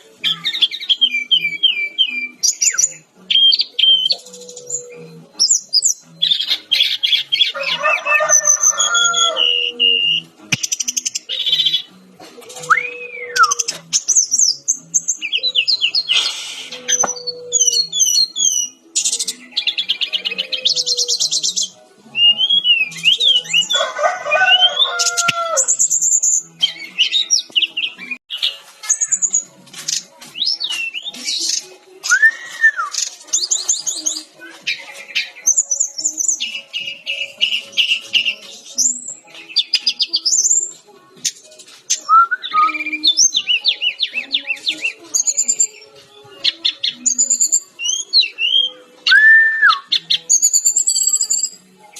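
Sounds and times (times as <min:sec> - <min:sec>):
flycatcher singing: 0:00.0 - 0:51.9.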